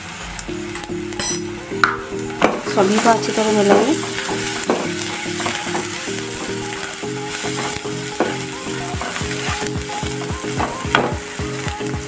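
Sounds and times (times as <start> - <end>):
spices sizzling in oil: 0.1 - 12.0
background music with beat: 0.2 - 12.0.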